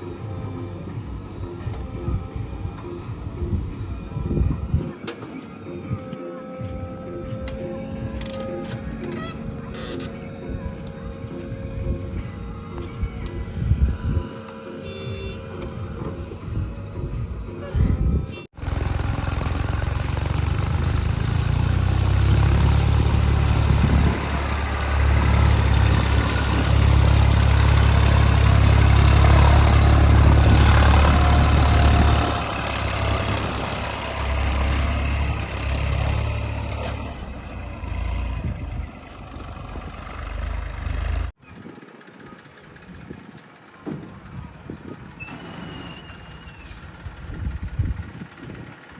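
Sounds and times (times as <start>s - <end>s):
backhoe diesel engine rumbling: 0.0s - 48.9s.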